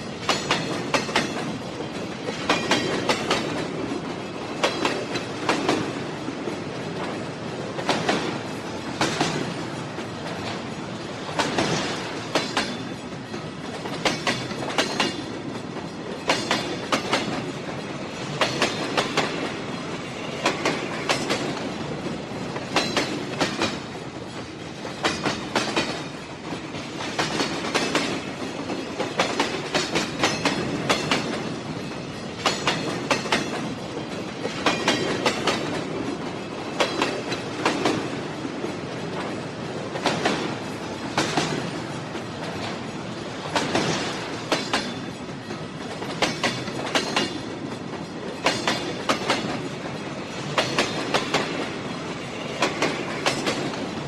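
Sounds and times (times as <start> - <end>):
train rumble: 0.0 - 54.0
train wheels clicking on rail joints: 0.0 - 54.0.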